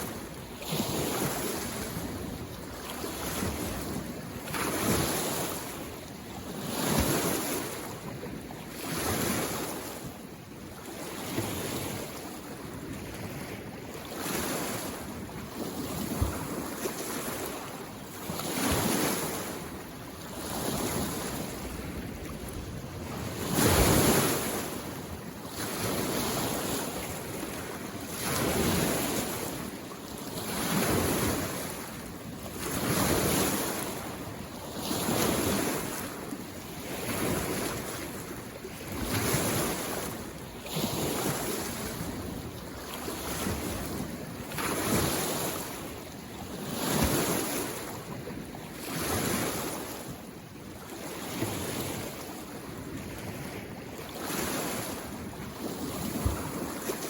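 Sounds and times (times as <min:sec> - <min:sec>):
lake waves lapping shore: 0:00.0 - 0:57.0.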